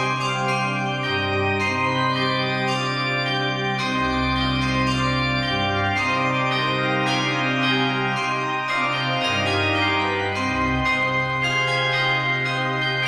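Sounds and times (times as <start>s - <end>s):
organ music with bass line: 0.0s - 13.0s.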